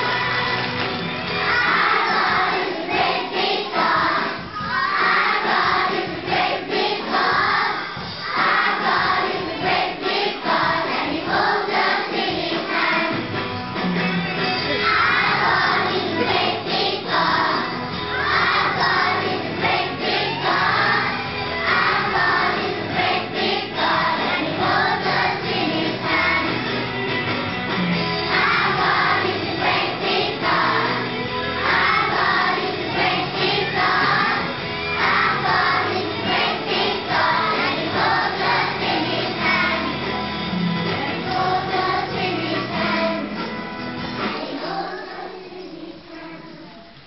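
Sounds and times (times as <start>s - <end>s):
children's choir singing: 0.0s - 13.6s, 14.5s - 27.1s, 27.9s - 47.0s.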